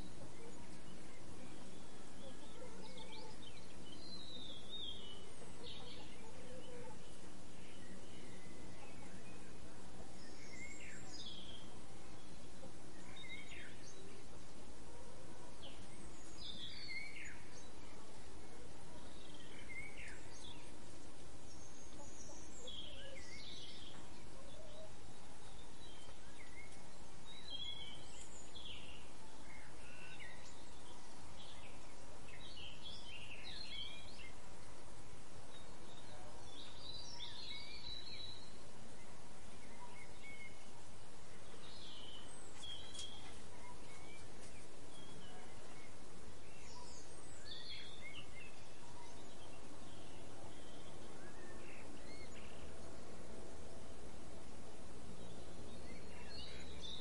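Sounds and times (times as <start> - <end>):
birds chirping: 0.0 - 57.0
outdoor background noise: 0.0 - 57.0.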